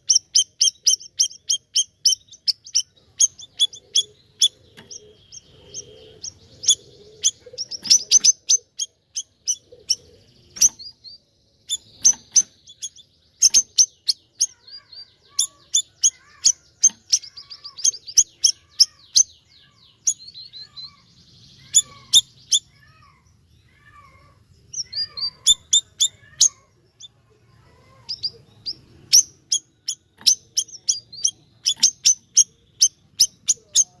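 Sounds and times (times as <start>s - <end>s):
songbird chirping and trilling: 0.0s - 34.0s.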